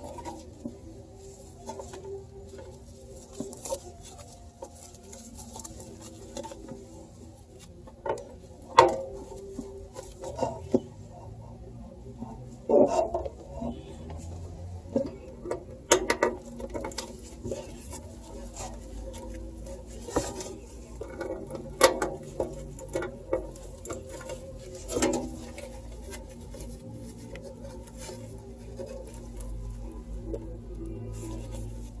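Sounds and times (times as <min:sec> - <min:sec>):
hands handling computer parts: 0:00.0 - 0:11.2, 0:12.6 - 0:32.0.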